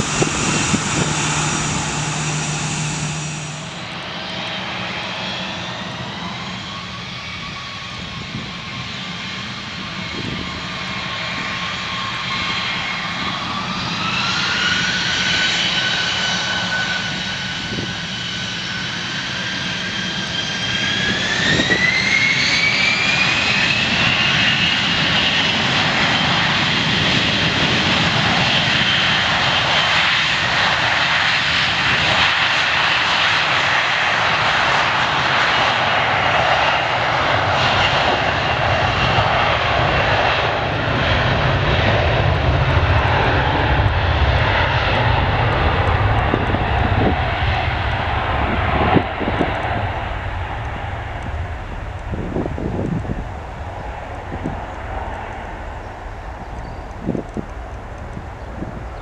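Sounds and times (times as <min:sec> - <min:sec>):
jet engines spooling up: 0:00.0 - 0:59.0.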